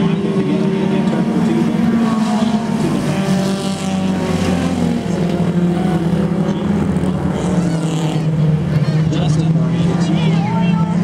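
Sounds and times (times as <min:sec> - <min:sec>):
race cars racing past: 0:00.0 - 0:11.0.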